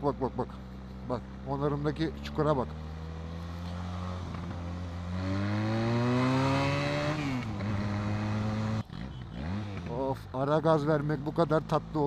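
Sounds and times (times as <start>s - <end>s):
motorcycle engine revving: 0.6s - 12.0s.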